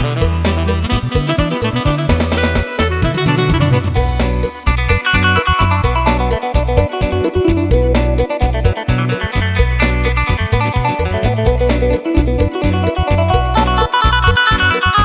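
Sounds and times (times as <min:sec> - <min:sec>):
drum beat and bass line: 0:00.0 - 0:15.0.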